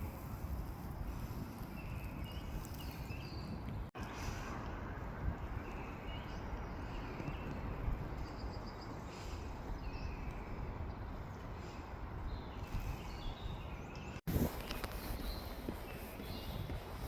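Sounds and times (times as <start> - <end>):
small birds chirping: 0.0 - 4.7, 5.3 - 17.0
wind rumbling on microphone: 0.0 - 17.0.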